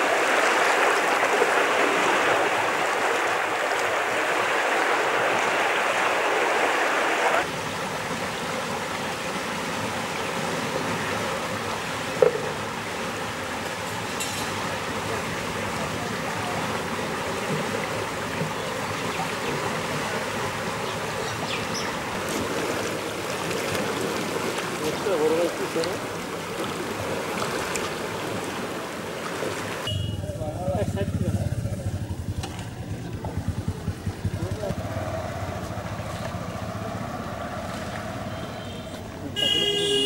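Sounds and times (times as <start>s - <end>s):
floodwater rushing and splashing: 0.0s - 40.0s.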